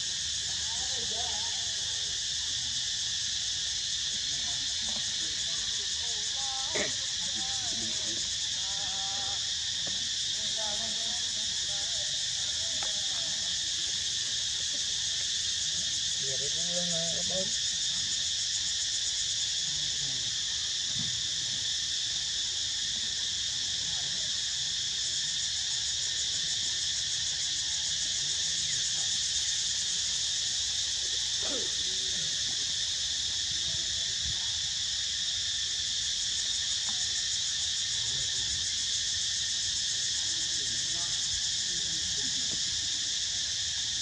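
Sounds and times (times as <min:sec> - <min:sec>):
insect chorus buzzing: 0:00.0 - 0:44.0.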